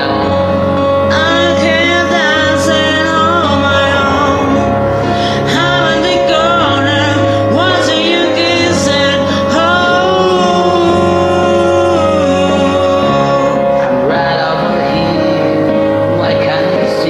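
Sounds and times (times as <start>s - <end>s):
karaoke backing track: 0.0s - 17.0s
person singing long notes: 0.0s - 17.0s.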